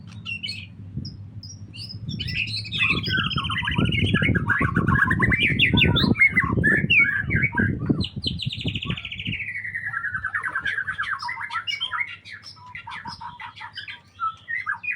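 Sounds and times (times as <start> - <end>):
songbird trilling and chirping: 0.0 - 14.9.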